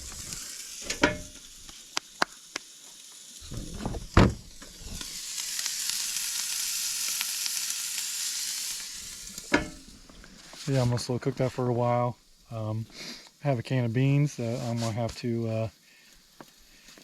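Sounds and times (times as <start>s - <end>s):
steak sizzling on a grill: 0.0s - 17.0s.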